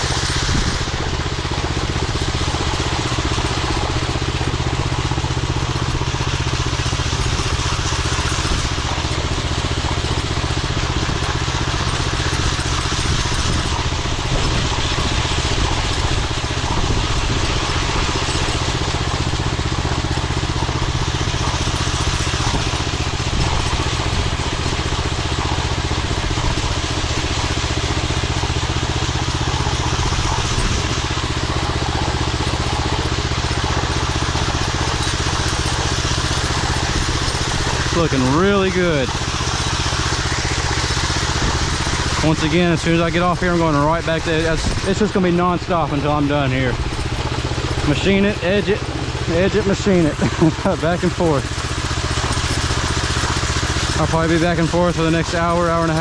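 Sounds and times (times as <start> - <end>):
power trowel engine running: 0.0 - 56.0.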